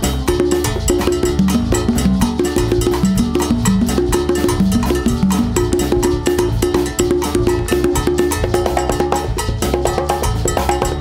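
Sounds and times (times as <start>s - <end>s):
congas played by hand: 0.0s - 11.0s
salsa band playing: 0.0s - 11.0s
timbales played with sticks: 0.0s - 11.0s.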